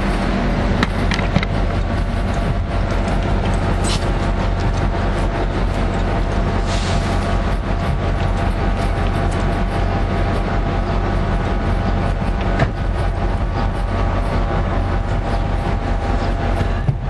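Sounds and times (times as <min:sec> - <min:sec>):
diesel locomotive engine hum: 0:00.0 - 0:17.0.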